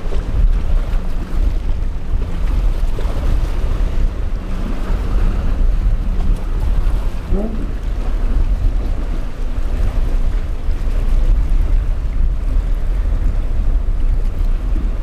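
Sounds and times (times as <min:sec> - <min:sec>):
outboard engine running: 0:00.0 - 0:15.0
surf and breaking waves: 0:00.0 - 0:15.0
wind buffeting microphone: 0:00.0 - 0:15.0.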